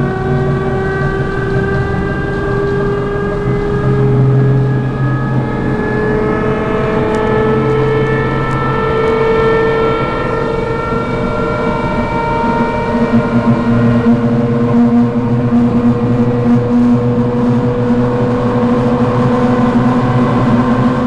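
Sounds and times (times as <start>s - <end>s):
electric train motors whining: 0.0s - 21.0s
train rumble: 0.0s - 21.0s.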